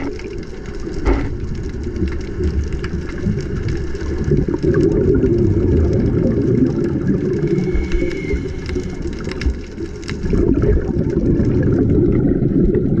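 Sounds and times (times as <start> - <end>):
sharp clicks and crackles: 0.0 - 12.1
underwater low rumble: 0.0 - 13.0.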